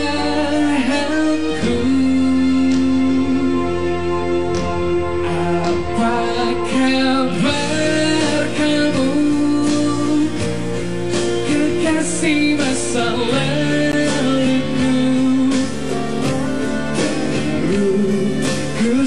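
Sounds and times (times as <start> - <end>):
bass guitar: 0.0 - 19.0
electric guitars: 0.0 - 19.0
person singing: 0.0 - 19.0.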